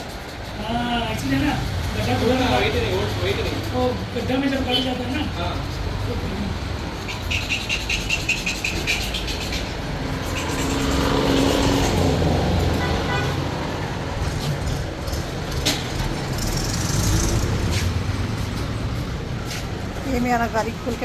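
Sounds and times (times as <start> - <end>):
motor vehicle passing: 0.0 - 21.0.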